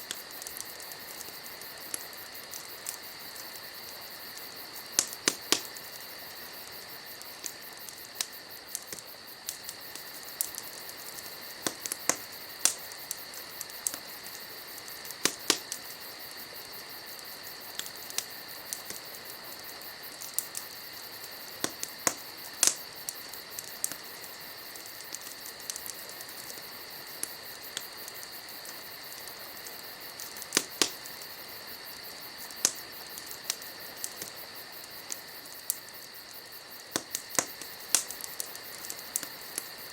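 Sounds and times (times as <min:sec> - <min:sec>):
crickets trilling: 0:00.0 - 0:39.9
firewood crackling and popping: 0:00.0 - 0:39.9.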